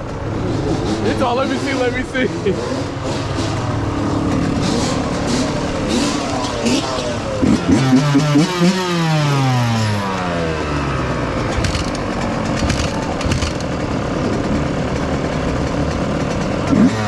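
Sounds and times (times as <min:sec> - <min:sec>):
rushing noise: 0:00.0 - 0:14.6
dirt bike engine revving: 0:00.0 - 0:17.0.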